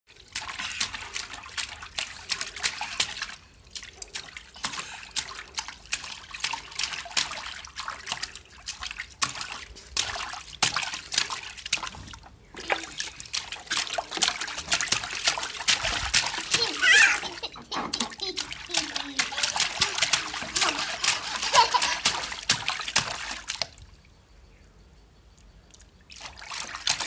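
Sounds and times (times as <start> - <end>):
hands splashing water in a tub: 0.1 - 23.9, 25.7 - 27.0.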